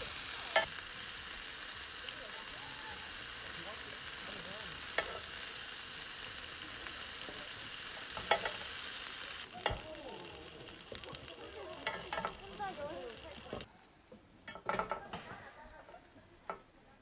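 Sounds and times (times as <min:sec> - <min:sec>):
food sizzling in a pan: 0:00.0 - 0:13.7.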